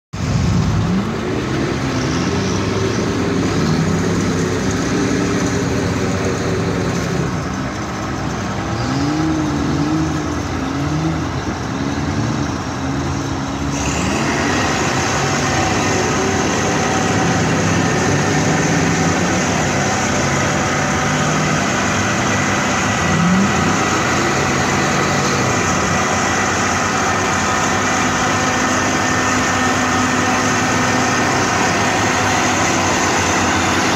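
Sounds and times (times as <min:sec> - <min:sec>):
bulldozer diesel engine revving: 0:00.2 - 0:33.9.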